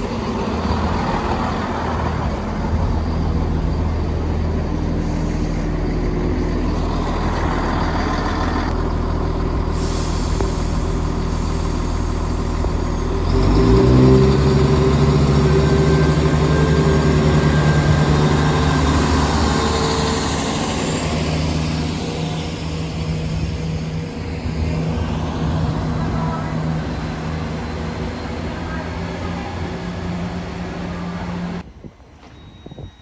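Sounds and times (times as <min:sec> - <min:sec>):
diesel train engine throttling up: 0:00.0 - 0:32.8.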